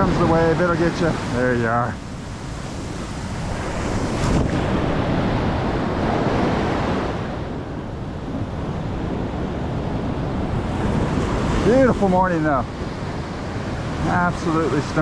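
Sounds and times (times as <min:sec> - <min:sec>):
surf breaking on sand: 0:00.0 - 0:15.0
wind buffeting microphone: 0:00.0 - 0:15.0.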